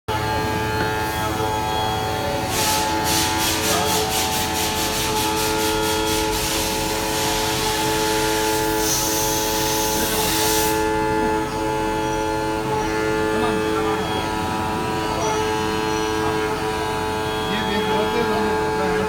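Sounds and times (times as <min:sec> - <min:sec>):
router spindle cutting wood: 0:00.1 - 0:19.0
steady held tones: 0:00.1 - 0:19.0.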